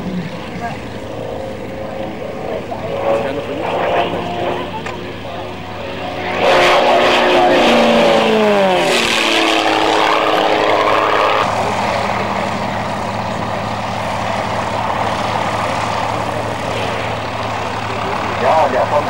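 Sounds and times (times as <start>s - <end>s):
propeller plane passing low: 0.0s - 19.0s.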